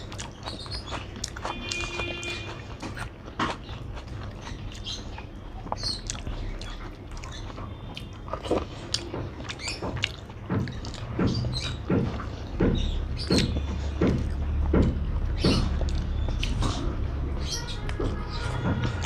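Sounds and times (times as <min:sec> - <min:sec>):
person chewing: 0:00.0 - 0:19.0.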